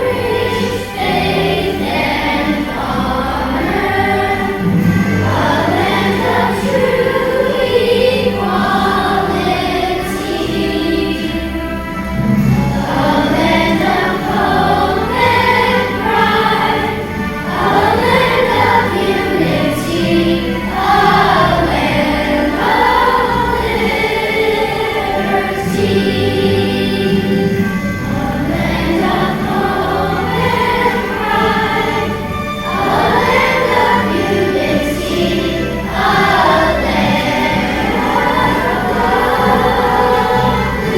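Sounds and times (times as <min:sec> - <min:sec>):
choir singing: 0:00.0 - 0:40.9
musical accompaniment: 0:00.0 - 0:40.9.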